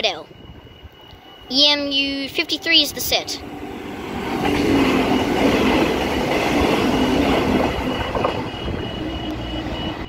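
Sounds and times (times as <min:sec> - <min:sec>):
level crossing warning bells: 0:00.0 - 0:10.0
train wheels rushing on rail: 0:00.9 - 0:10.0.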